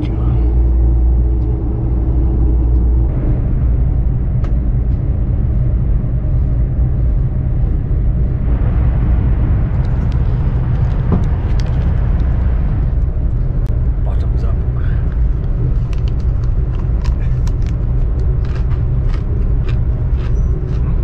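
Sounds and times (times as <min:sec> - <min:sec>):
train cabin rumble: 0:00.0 - 0:21.0.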